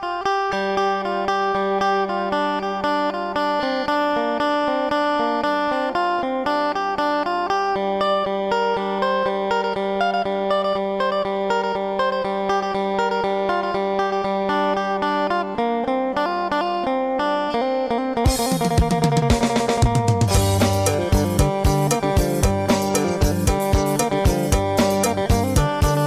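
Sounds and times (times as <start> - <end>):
plucked guitar picking notes: 0.0 - 26.0.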